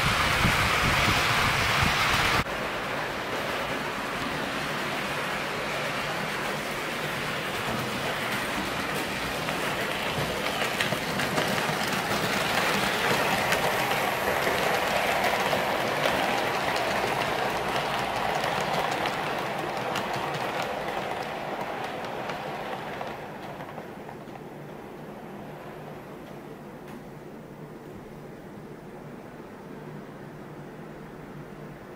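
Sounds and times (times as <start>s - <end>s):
model train wheels rumbling on rails: 0.0s - 27.0s.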